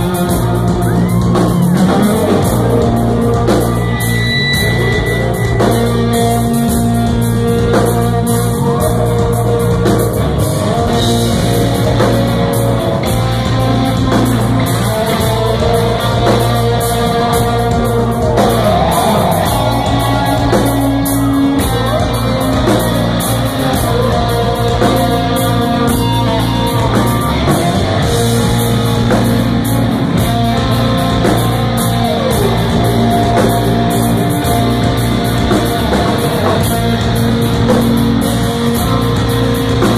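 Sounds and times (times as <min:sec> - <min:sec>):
bass guitar: 0:00.0 - 0:39.9
drums: 0:00.0 - 0:39.9
electric guitars: 0:00.0 - 0:39.9.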